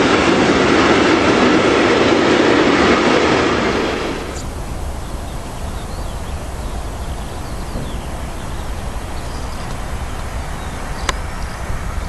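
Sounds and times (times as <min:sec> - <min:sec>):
birds chirping: 0:00.0 - 0:12.0
train wheels rumbling on rail: 0:00.0 - 0:12.0.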